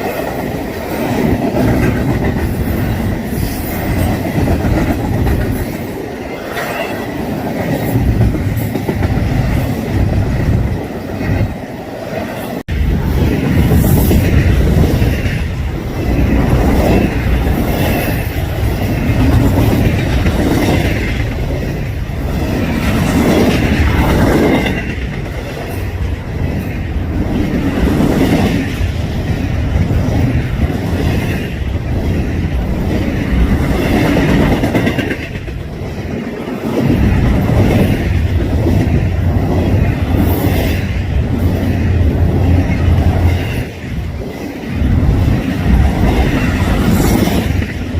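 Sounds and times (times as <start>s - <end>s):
freight train wheels clacking: 0.0s - 47.9s.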